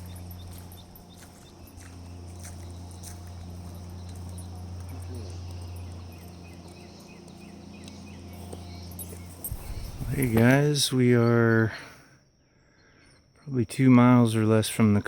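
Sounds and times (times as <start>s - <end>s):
steady low hum: 0.0s - 13.3s
insects chirping: 0.0s - 15.0s.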